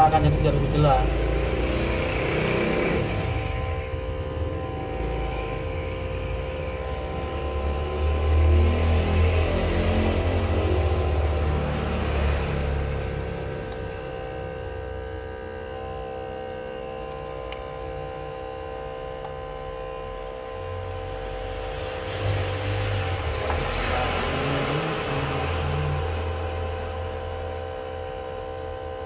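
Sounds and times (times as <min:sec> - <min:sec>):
vacuum pump humming: 0:00.0 - 0:29.0.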